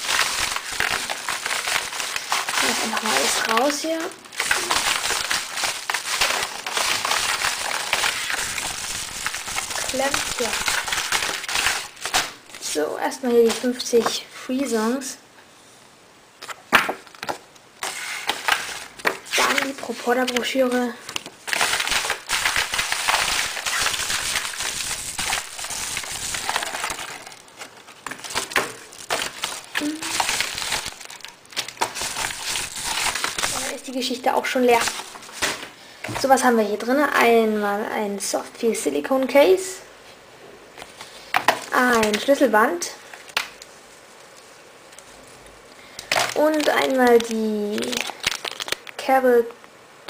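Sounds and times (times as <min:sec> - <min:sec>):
padded envelope crinkling: 0:00.0 - 0:13.9, 0:16.4 - 0:35.7, 0:40.8 - 0:49.0
plastic bags rustling and crackling: 0:00.0 - 0:14.2, 0:16.4 - 0:36.6, 0:40.8 - 0:49.1.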